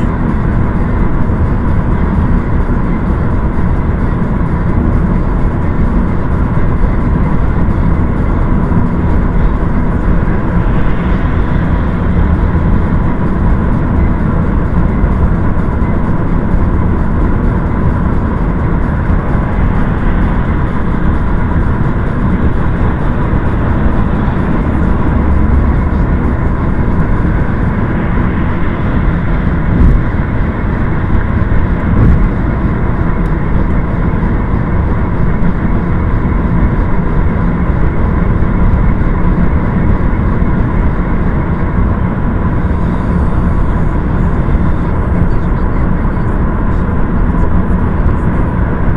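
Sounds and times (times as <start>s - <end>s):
loud vehicle noise: 0.0s - 48.9s.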